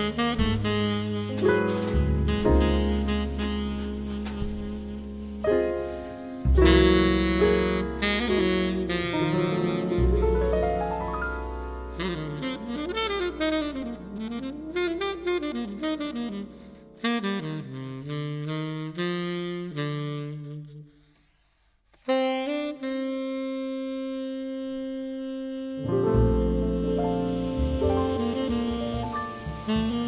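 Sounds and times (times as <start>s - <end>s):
double bass: 0.0s - 20.5s, 24.9s - 30.0s
tenor saxophone: 0.0s - 30.0s.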